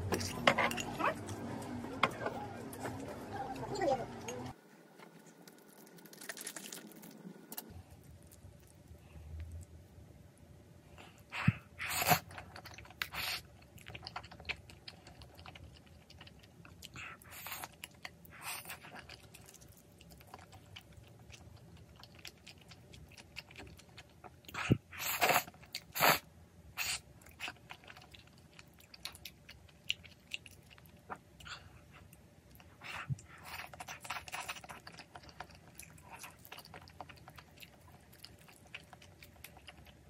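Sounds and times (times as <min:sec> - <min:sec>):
slurping and chewing noodles: 0:05.2 - 0:09.7, 0:11.2 - 0:40.0.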